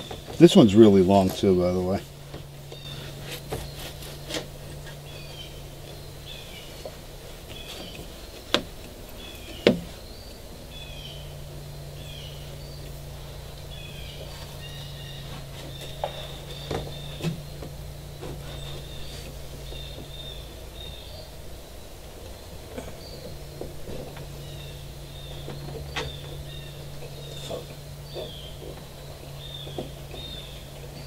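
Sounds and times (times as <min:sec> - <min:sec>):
low steady hum: 0:00.0 - 0:31.0
small birds chirping: 0:00.0 - 0:31.0.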